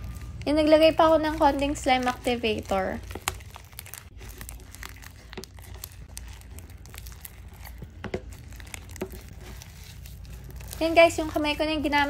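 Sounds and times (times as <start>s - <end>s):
slime crackling and popping: 0.0s - 12.0s.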